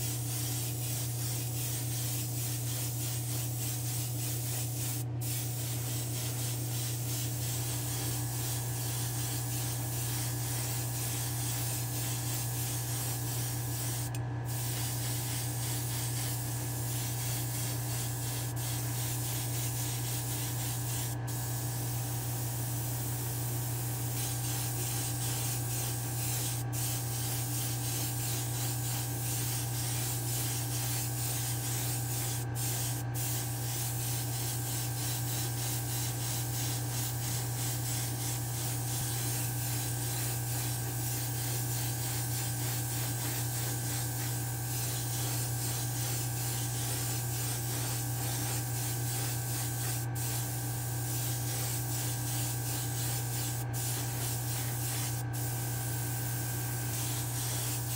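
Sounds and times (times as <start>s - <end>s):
airbrush spraying hiss: 0.0s - 57.9s
fan humming: 0.0s - 57.9s.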